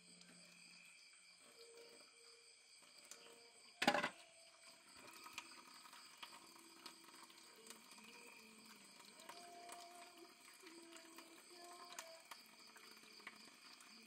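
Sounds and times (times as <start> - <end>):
faint water: 0.0 - 14.0
insect trilling: 0.0 - 14.0.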